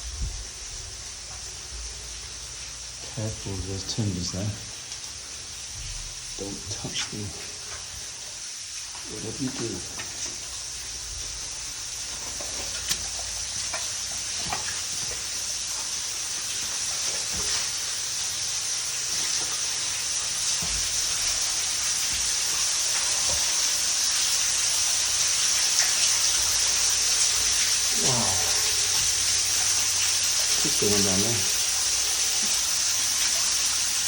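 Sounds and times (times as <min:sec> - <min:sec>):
water rushing in tunnel: 0:00.0 - 0:34.0.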